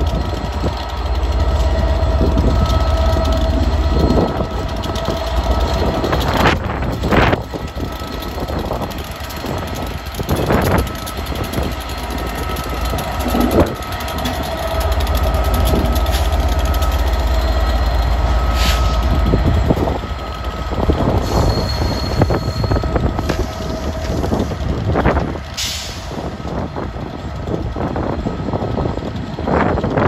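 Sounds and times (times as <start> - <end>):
freight train rumbling: 0.0 - 30.0
train clanks: 0.0 - 30.0
train wheel whining: 0.0 - 30.0.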